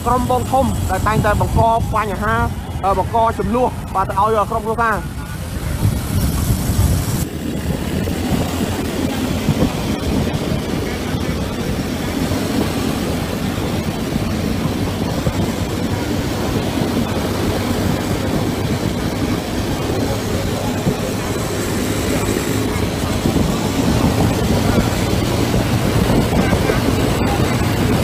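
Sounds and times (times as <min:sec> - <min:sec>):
traffic rumble and road noise: 0:00.0 - 0:28.0.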